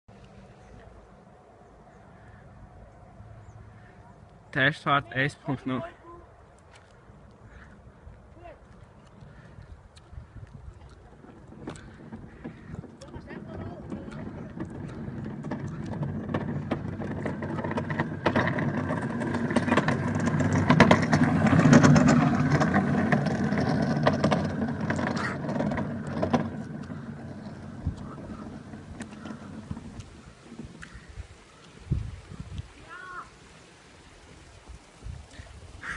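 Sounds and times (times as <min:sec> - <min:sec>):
cart rolling over asphalt: 0:06.6 - 0:35.9.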